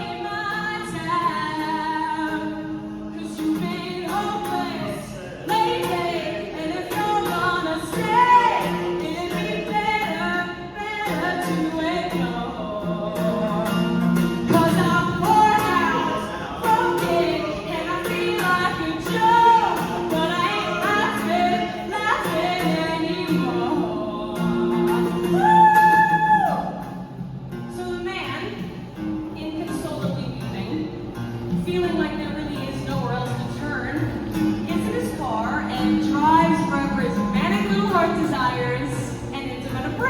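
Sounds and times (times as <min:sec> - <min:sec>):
woman singing: 0:00.0 - 0:26.8, 0:31.5 - 0:40.0
strummed guitar: 0:00.0 - 0:40.0.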